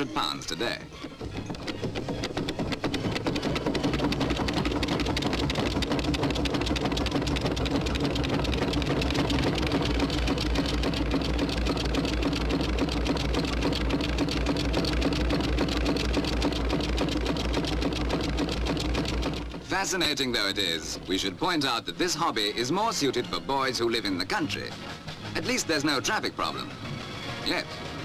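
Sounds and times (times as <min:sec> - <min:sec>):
steam traction engine clatter: 0:00.0 - 0:28.0.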